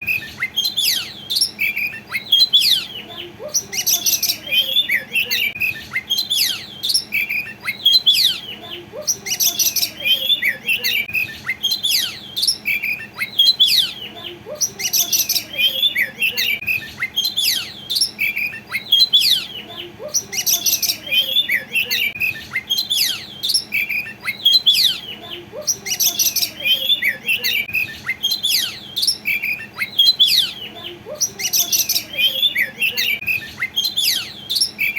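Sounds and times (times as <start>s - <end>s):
songbird whistles and chirps: 0.0s - 34.9s.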